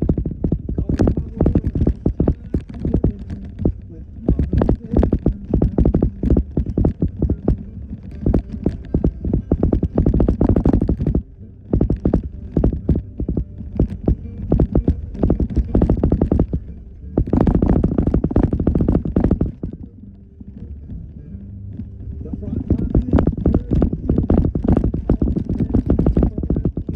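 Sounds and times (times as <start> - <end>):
knocks and rattles of bouncing vehicle: 0.0 - 26.9
vehicle engine rumble: 0.0 - 26.9.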